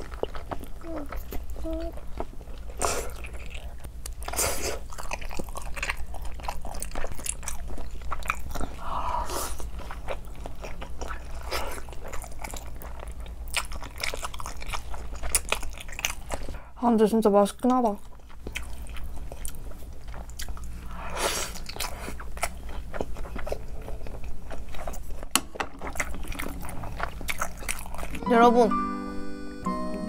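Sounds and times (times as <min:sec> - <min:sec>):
close chewing and wet mouth clicks: 0:00.0 - 0:16.6, 0:17.6 - 0:28.2.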